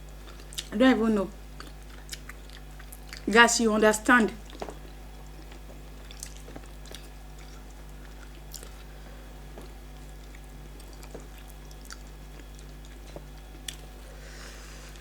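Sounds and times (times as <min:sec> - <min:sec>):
people chewing: 0:00.0 - 0:00.7, 0:01.6 - 0:03.3, 0:04.4 - 0:15.0
low steady hum: 0:00.0 - 0:15.0.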